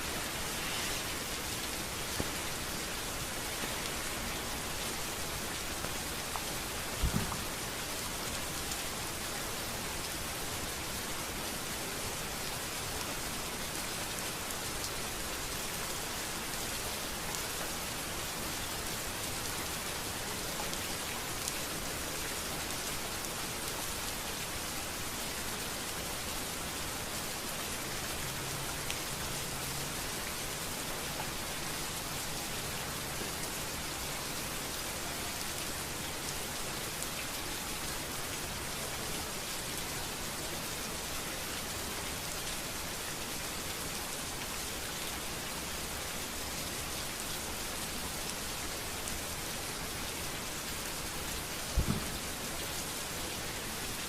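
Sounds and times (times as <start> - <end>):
rain falling on a street: 0.0 - 54.0.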